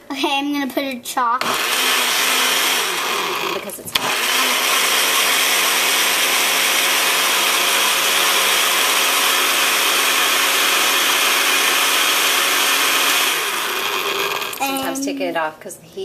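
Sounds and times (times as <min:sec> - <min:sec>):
blender running: 0:01.4 - 0:15.0.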